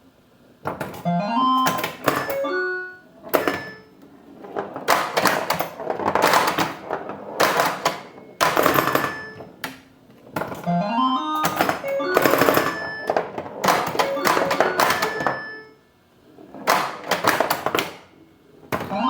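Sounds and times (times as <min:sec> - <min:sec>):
mechanical clacks of pinball playfield: 0:00.6 - 0:15.7, 0:16.4 - 0:19.0
pinball electronic tones: 0:00.8 - 0:19.0.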